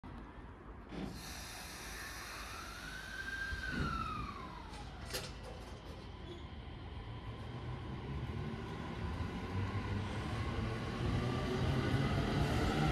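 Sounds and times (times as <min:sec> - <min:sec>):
low train rumble: 0:00.0 - 0:12.9
electric train inverter whine: 0:01.0 - 0:12.9.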